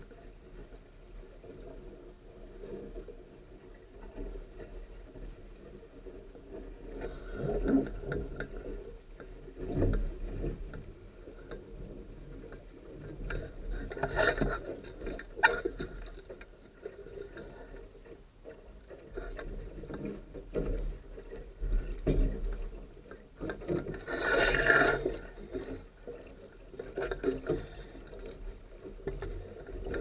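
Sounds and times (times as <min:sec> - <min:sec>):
water lapping against hull: 0:00.0 - 0:30.0.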